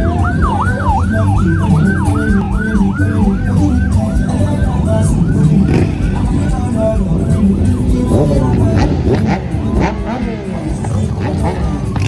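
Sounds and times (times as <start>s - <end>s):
electronic siren yelping: 0.0s - 12.0s
low engine noise: 0.0s - 12.0s.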